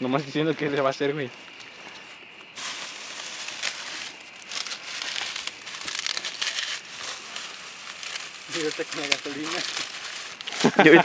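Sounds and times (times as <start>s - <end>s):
dry leaves and twigs crunching: 1.4s - 11.0s.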